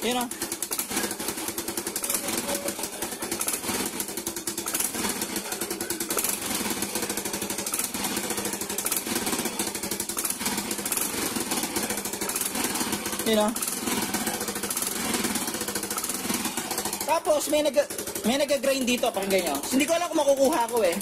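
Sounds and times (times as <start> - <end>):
faint exhaust backfires: 0.0 - 21.0
scooter engine running: 0.0 - 21.0.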